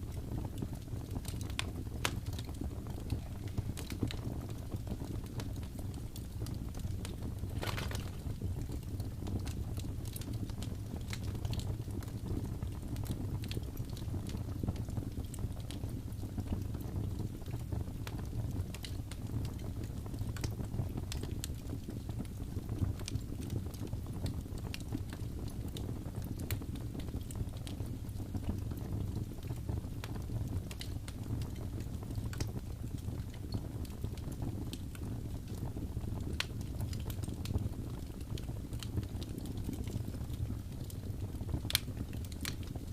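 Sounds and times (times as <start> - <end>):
fire pops and snaps: 0.0 - 42.9
low rumble of flames: 0.0 - 42.9.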